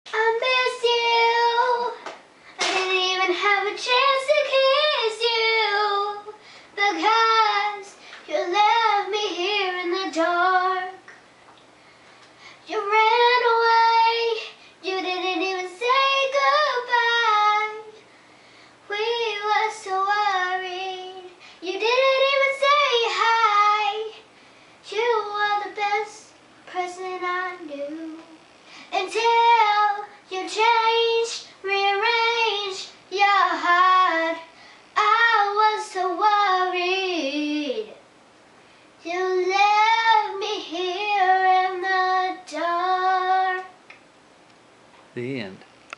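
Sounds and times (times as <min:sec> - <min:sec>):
girl singing unaccompanied: 0:00.1 - 0:11.4, 0:12.4 - 0:18.2, 0:18.8 - 0:38.1, 0:39.0 - 0:44.0.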